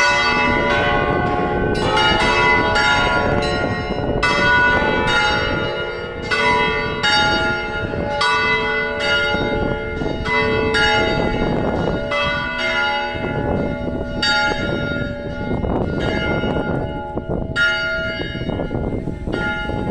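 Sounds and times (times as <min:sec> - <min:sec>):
church bells pealing: 0:00.0 - 0:19.9.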